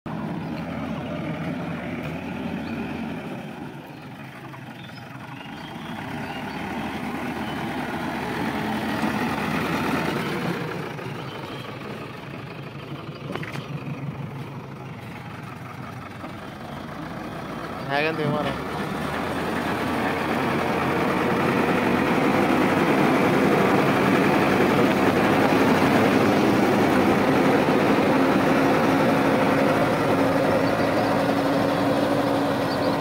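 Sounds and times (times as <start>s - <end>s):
diesel engine of backhoe loader: 0.1s - 33.0s.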